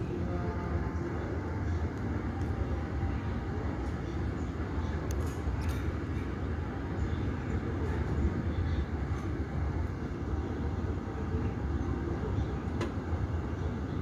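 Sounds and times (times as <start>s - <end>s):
airport apron rumble: 0.0s - 14.0s.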